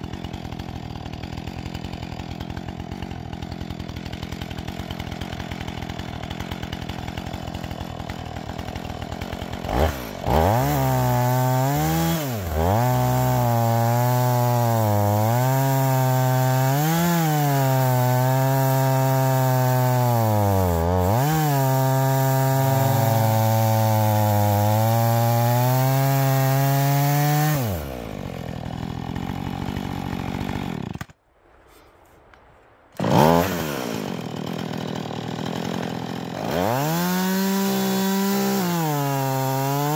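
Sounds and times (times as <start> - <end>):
chainsaw idling and cutting wood: 0.0 - 31.8, 33.0 - 39.9.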